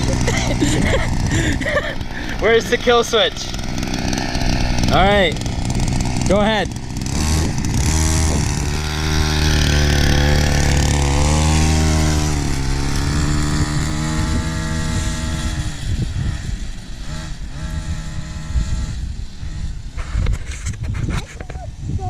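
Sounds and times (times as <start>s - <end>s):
mini bike engine revving: 0.0s - 22.0s.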